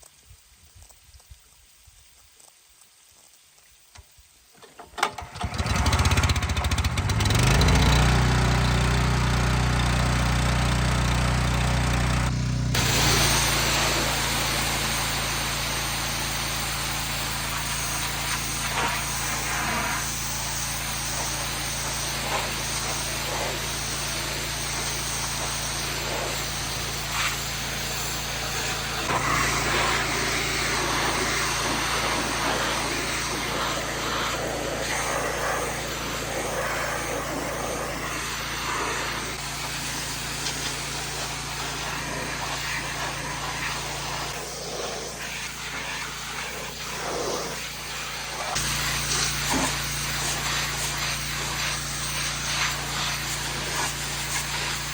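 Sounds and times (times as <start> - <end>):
small engine running: 5.0 - 54.9
water spray hissing: 5.5 - 54.9.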